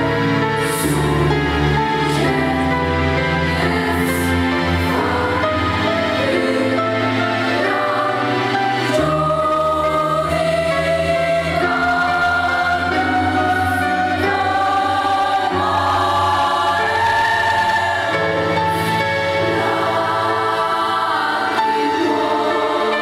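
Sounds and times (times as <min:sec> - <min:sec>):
girls' choir singing: 0:00.6 - 0:23.0.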